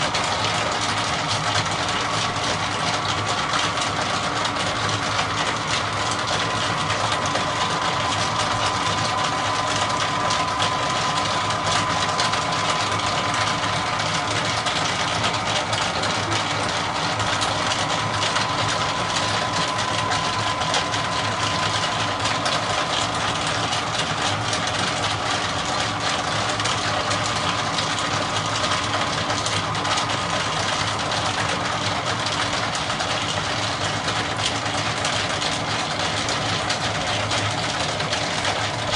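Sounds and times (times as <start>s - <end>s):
model train humming and whining: 0.0s - 38.9s.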